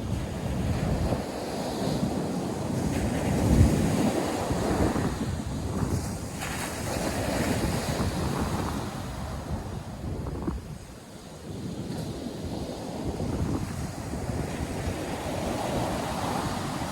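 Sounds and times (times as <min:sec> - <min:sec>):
surf washing onto beach: 0:00.0 - 0:16.9
wind buffeting microphone: 0:00.0 - 0:16.9.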